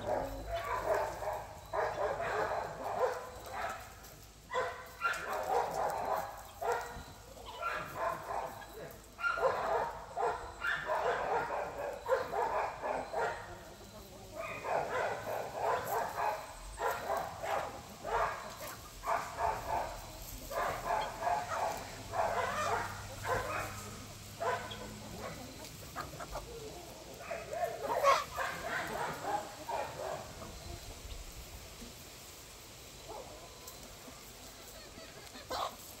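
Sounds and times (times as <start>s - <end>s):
dogs: 0.0s - 31.0s, 33.0s - 36.0s
chickens calling: 0.0s - 36.0s.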